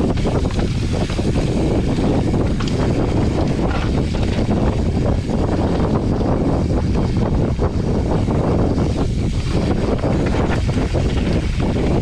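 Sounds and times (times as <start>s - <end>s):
bike rattles and knocks: 0.0s - 12.0s
tyre and drivetrain noise: 0.0s - 12.0s
wind buffeting microphone: 0.0s - 12.0s.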